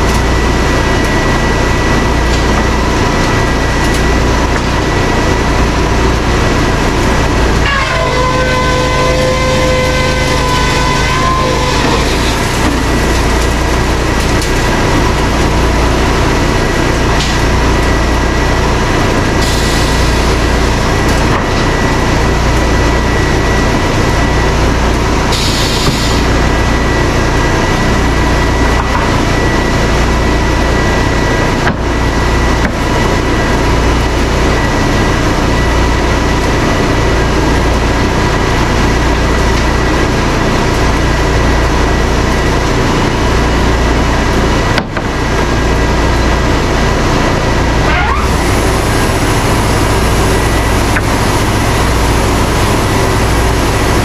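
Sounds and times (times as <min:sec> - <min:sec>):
engine hum: 0:00.0 - 0:54.0
whine of spinning saws: 0:00.0 - 0:54.0.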